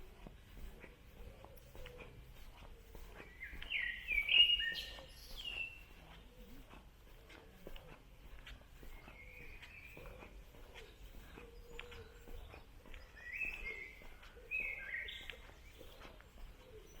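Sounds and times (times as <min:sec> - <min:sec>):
footsteps on woodland path: 0:00.0 - 0:17.0
songbirds singing: 0:00.0 - 0:17.0.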